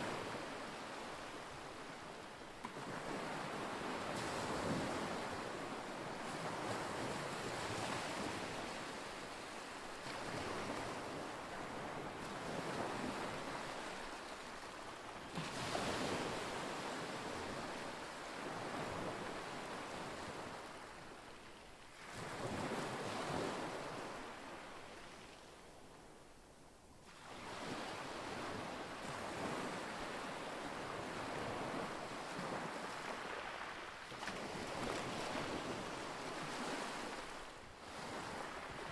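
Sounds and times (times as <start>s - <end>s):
small waves washing ashore: 0.0s - 26.1s, 27.0s - 38.9s.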